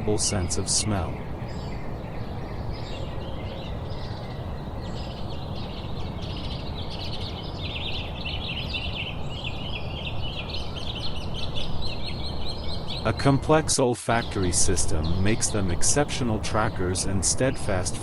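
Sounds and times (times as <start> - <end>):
low background rush: 0.0 - 18.0
small birds chirping: 0.0 - 18.0.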